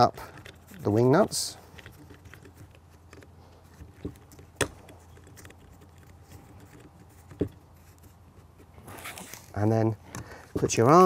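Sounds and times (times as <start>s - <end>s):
fiddling with wing nuts: 0.0s - 11.0s.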